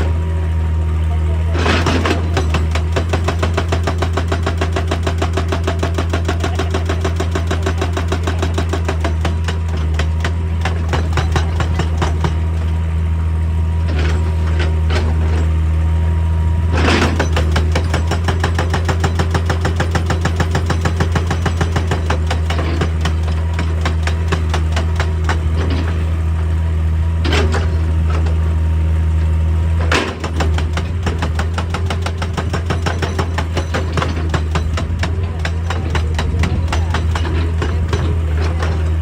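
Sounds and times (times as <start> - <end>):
diesel engine drone: 0.0 - 39.0
hydraulic breaker hammering rock: 1.5 - 12.9, 16.7 - 28.6, 29.7 - 39.0.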